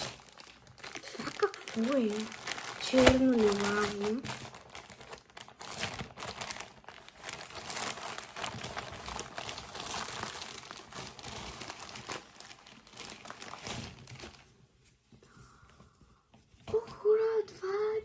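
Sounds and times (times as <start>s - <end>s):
packaging crinkling and rustling: 0.0s - 17.1s.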